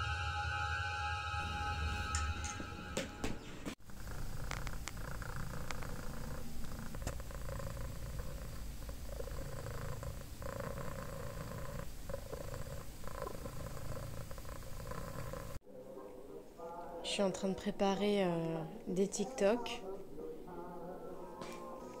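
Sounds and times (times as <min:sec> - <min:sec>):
cat purring: 0:03.7 - 0:22.0.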